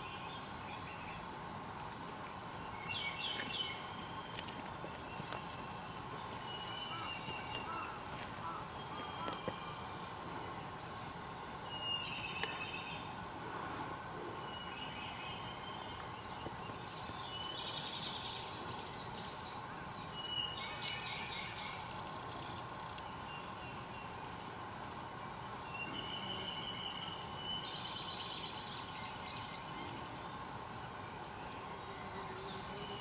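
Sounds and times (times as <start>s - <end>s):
background hiss: 0.0s - 33.0s
songbirds singing: 0.0s - 33.0s.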